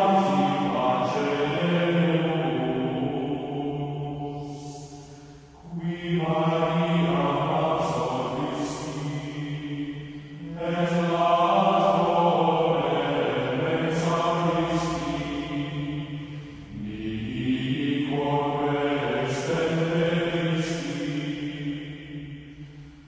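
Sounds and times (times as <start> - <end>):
choir chanting: 0.0 - 23.0.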